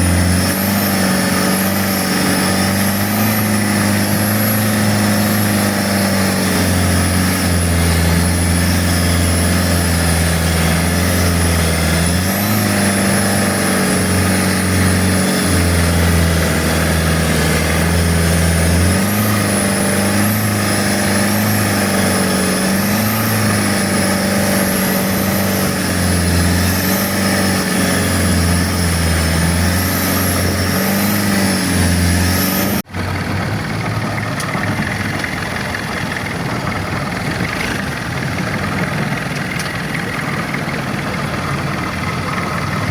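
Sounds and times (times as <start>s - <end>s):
boat engine running: 0.0s - 42.9s
wind and water rushing: 0.0s - 42.9s.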